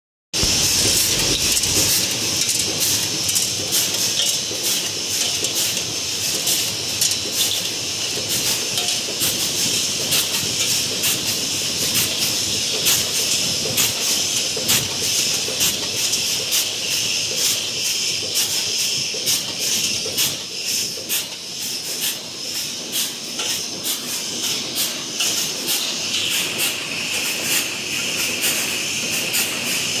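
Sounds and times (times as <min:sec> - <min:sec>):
machine clattering strokes: 0:00.4 - 0:30.0.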